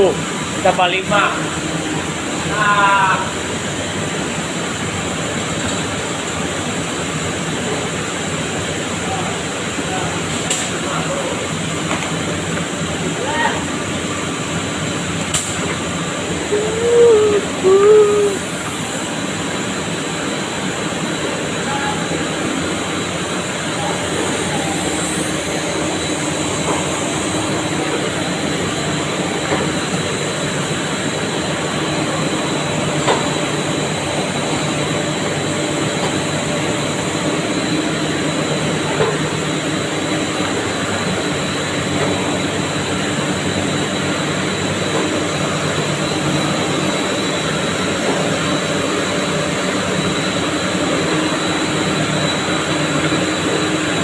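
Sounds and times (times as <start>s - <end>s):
machinery humming with high whine: 0.0s - 54.0s.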